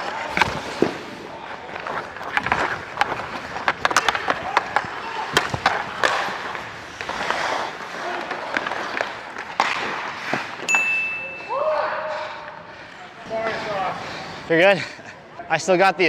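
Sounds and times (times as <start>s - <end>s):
skate blades scraping ice: 0.0s - 10.7s, 12.1s - 15.8s
hockey sticks and puck clacking: 0.0s - 15.9s.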